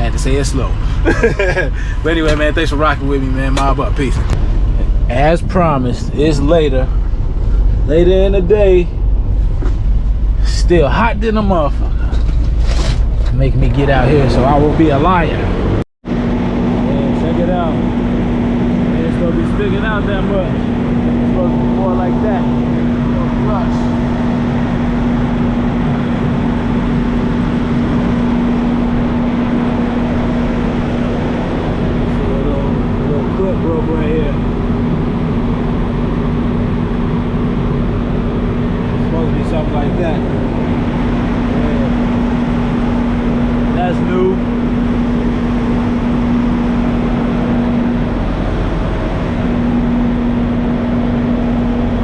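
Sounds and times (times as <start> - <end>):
diesel truck engine idling: 0.0 - 9.4, 16.5 - 52.0
constant hum: 0.0 - 52.0.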